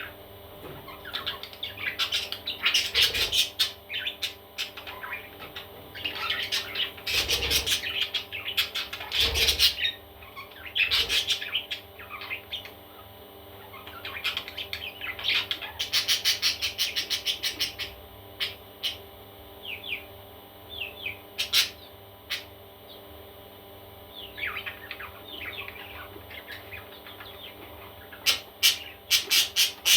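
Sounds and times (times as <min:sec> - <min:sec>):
parrot chicks chirping: 0:00.0 - 0:23.1, 0:24.1 - 0:29.9.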